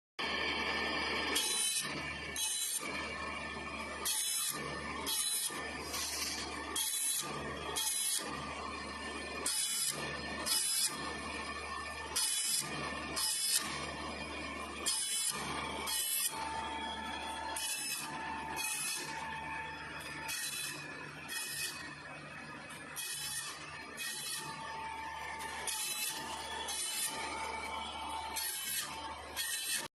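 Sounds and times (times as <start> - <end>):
machine motor hum: 0.2 - 29.8.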